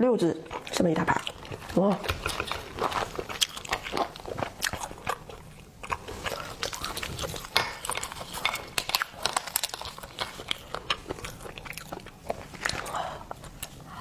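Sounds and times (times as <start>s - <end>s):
biting and chewing: 0.2s - 14.0s
lobster shells cracking: 0.6s - 13.7s.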